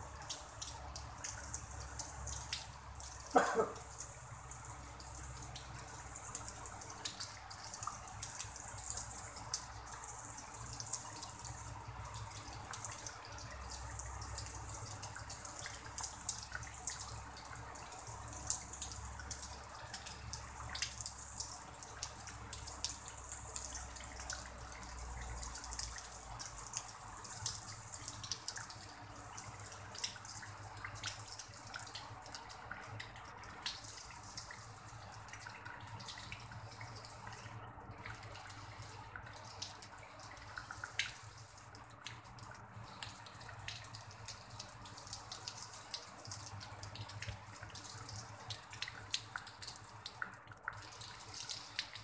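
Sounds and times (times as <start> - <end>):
raindrops ticking: 0.0 - 52.0.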